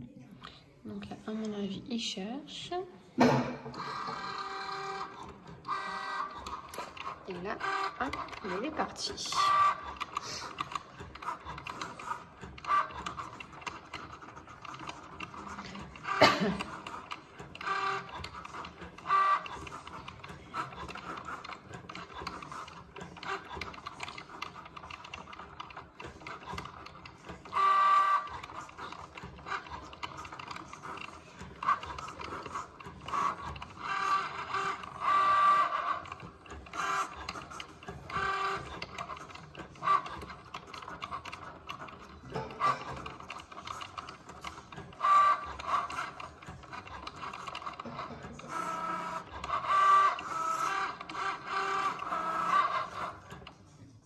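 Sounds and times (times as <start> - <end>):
cutting machine motors whirring: 3.2 - 54.0.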